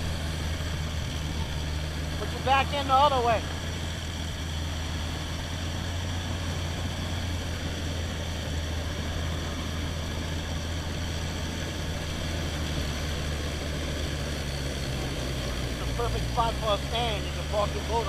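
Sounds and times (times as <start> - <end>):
boat motor droning: 0.0 - 18.0.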